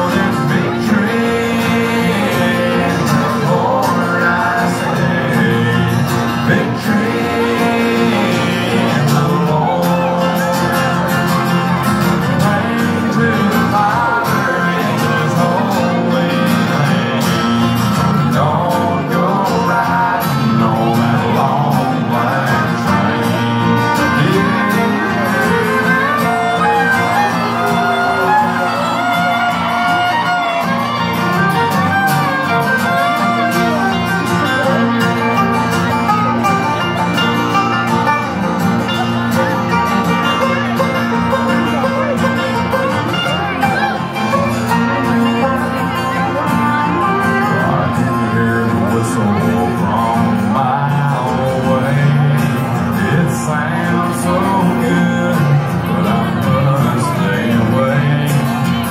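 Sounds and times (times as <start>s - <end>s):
live country band playing: 0.0s - 58.9s.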